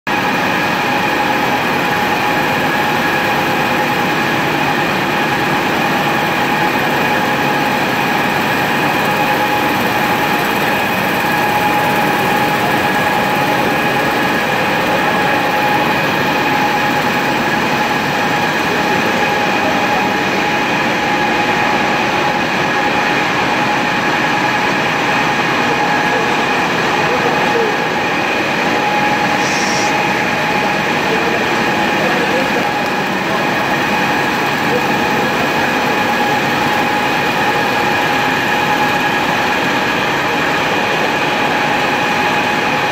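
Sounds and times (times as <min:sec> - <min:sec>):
constant high whine: 0:00.1 - 0:42.9
printing press running: 0:00.1 - 0:42.9.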